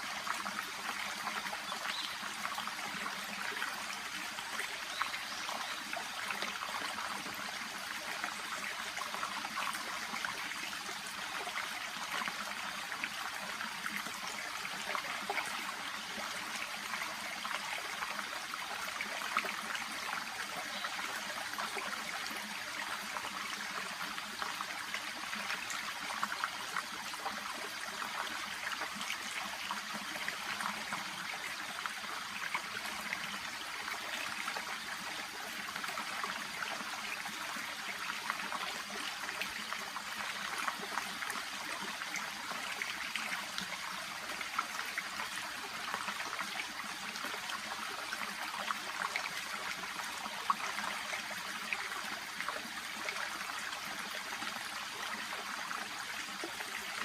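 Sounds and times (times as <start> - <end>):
shallow brook babbling: 0.0 - 57.0.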